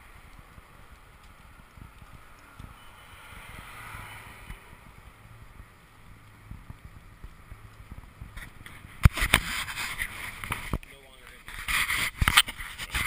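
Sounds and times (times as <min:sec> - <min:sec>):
stroller wheels rumbling on concrete: 0:00.0 - 0:13.0.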